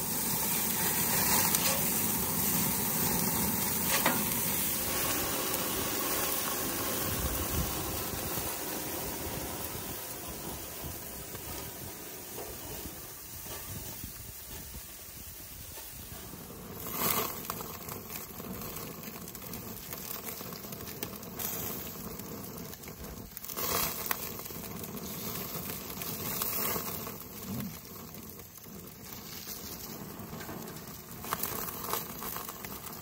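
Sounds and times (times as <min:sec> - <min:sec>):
burger patties sizzling on grill: 0:00.0 - 0:33.0.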